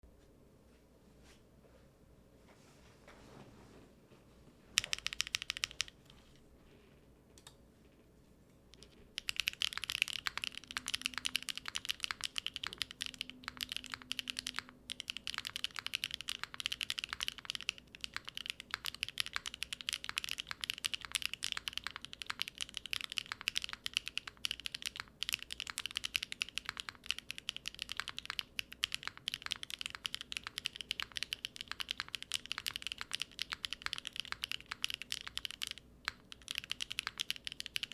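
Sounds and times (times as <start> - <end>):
mechanical keyboard typing: 4.8 - 6.1, 8.8 - 37.9.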